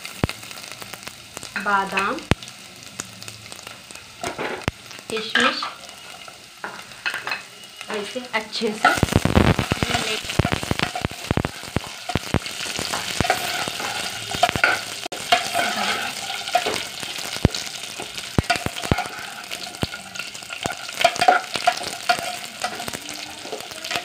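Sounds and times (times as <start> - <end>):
nuts sizzling in ghee: 0.0 - 24.0.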